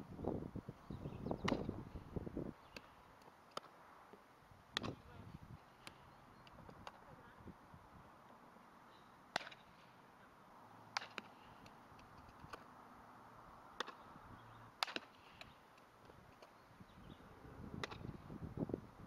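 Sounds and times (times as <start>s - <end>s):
faint outdoor background: 0.0s - 19.0s
softball being hit and fielded: 1.1s - 7.4s, 8.0s - 12.8s, 13.6s - 17.0s, 17.6s - 18.4s.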